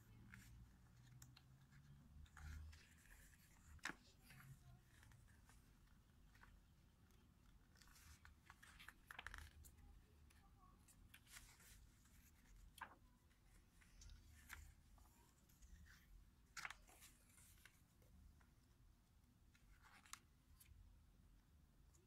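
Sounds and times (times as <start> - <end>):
magazine pages turning: 0.2 - 10.2, 10.9 - 17.9, 19.6 - 20.7.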